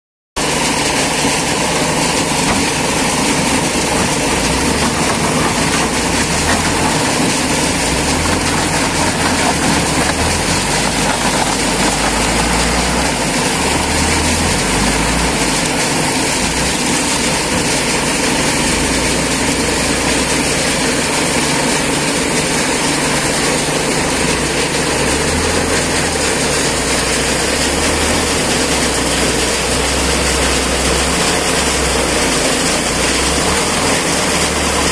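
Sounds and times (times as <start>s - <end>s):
wheel loader diesel engine: 0.4s - 34.9s.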